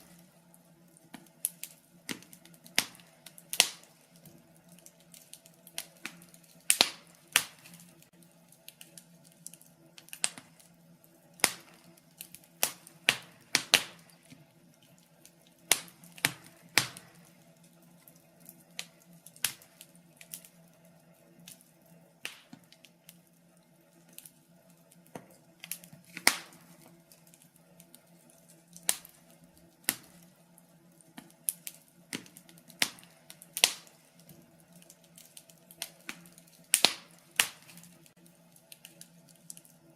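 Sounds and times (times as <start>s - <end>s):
sharp pops from fire: 0.0s - 20.6s, 21.4s - 23.3s, 24.0s - 39.9s
wood fire crackling: 0.0s - 39.9s.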